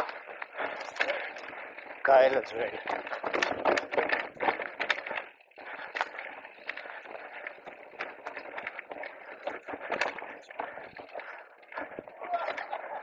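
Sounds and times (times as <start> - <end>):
bike clattering: 0.0 - 13.0.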